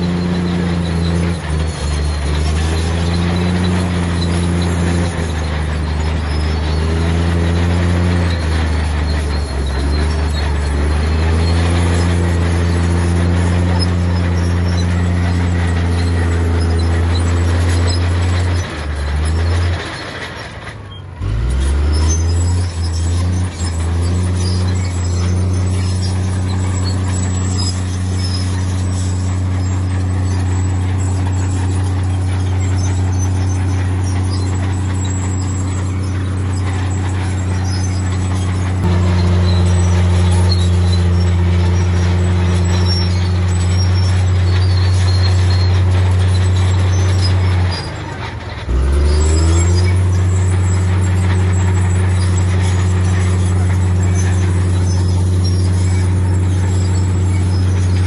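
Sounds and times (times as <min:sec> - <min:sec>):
heavy diesel engine drone: 0:00.0 - 0:58.0.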